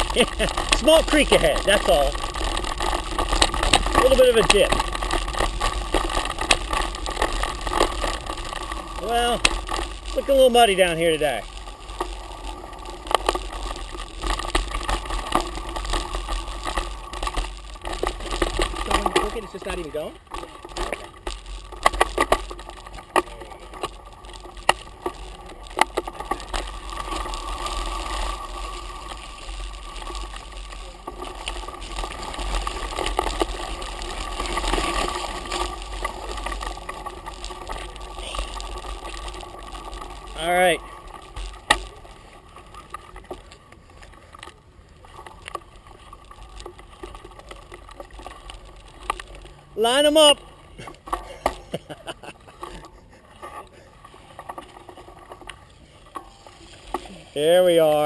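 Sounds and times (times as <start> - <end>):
mountain bike rattling over trail: 0.0 - 58.0.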